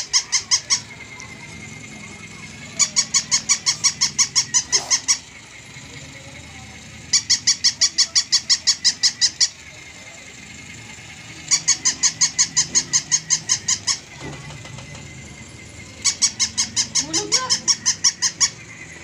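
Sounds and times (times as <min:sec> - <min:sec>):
toy dog electronic yips: 0:00.0 - 0:19.0.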